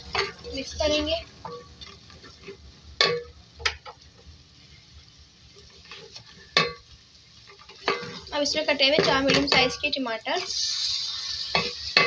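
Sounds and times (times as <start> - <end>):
faint sizzling of frying: 0.0 - 12.0.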